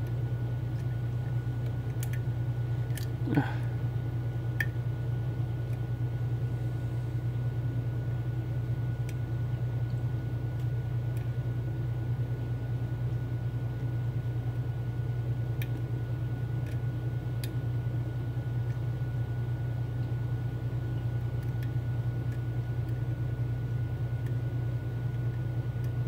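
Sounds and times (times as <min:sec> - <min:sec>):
low machine hum with high whine: 0:00.0 - 0:26.0.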